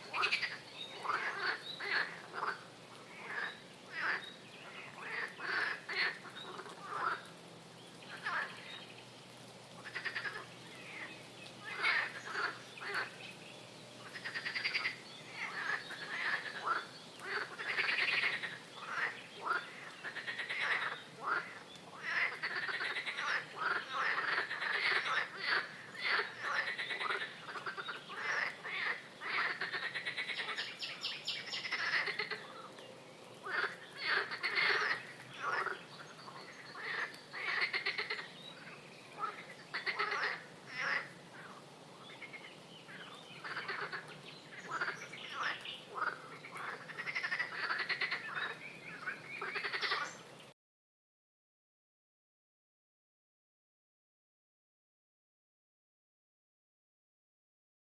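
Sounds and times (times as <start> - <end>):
frogs croaking: 0.0 - 7.4, 8.2 - 8.7, 9.8 - 13.4, 14.0 - 50.2.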